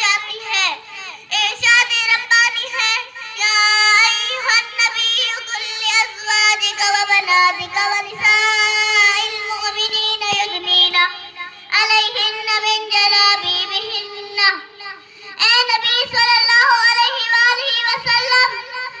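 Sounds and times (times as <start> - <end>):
girl chanting verses: 0.0 - 19.0.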